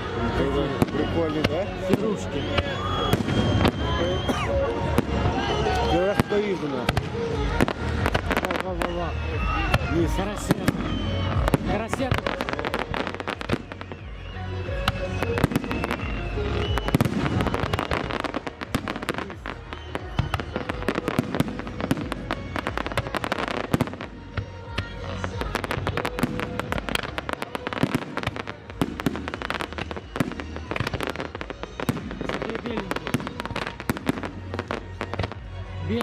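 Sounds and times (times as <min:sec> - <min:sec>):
fireworks crackling: 0:00.0 - 0:36.0
fireworks booms: 0:00.7 - 0:14.1, 0:14.7 - 0:35.5.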